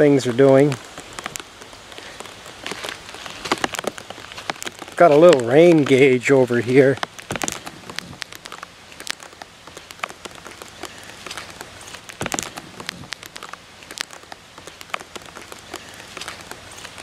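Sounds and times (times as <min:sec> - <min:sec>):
light rain on grass and leaves: 0:00.0 - 0:17.0
raindrops tapping: 0:00.0 - 0:17.0.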